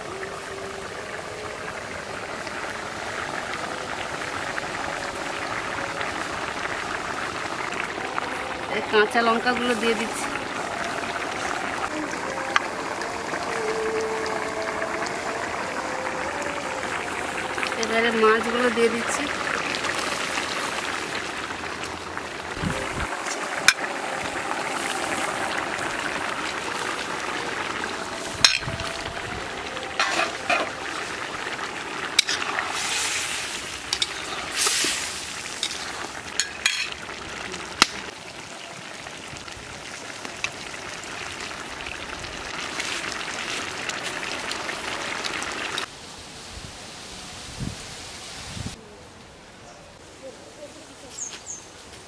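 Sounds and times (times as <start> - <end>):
curry sizzling in a pan: 0.0 - 45.9.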